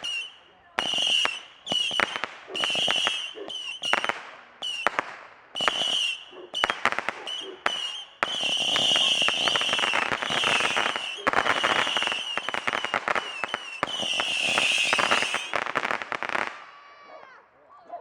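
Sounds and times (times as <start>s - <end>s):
firework whistling and crackling: 0.0s - 16.6s.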